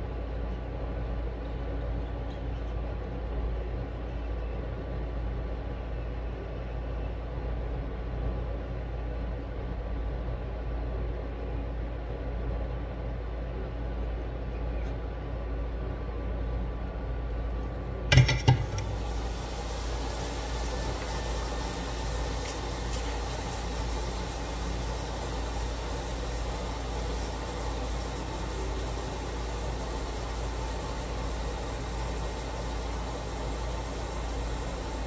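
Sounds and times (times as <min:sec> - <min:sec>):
low hum with hiss: 0:00.0 - 0:35.0.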